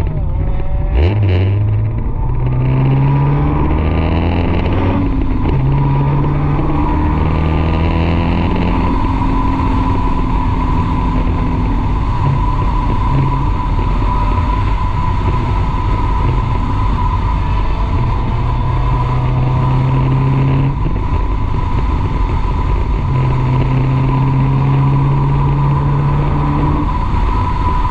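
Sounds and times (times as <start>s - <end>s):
car engine running under load: 0.0s - 27.9s
steady high whine: 0.0s - 27.9s
wind noise: 0.0s - 27.9s.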